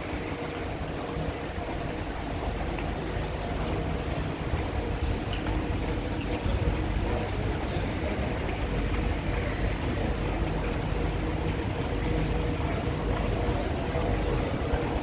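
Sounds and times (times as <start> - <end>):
station background noise: 0.0 - 15.0
train humming at platform: 0.0 - 15.0.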